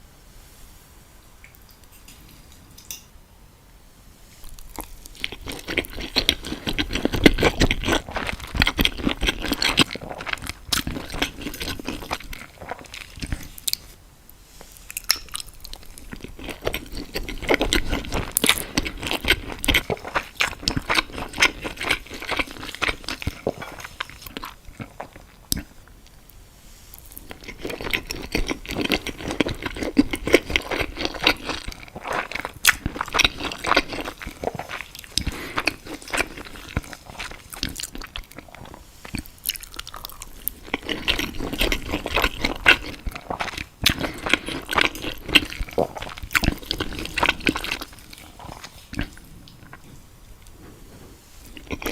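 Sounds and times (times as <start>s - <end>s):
person crunching and chewing: 4.4s - 14.0s, 14.7s - 26.2s, 26.9s - 50.6s, 51.3s - 51.9s.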